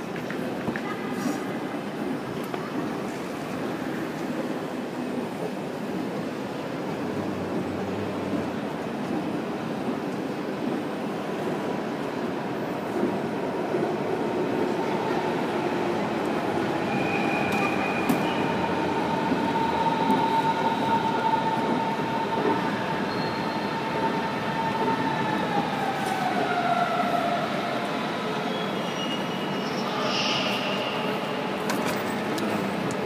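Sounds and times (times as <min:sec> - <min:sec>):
train rumbling: 0:00.0 - 0:33.0
train whine: 0:02.0 - 0:33.0.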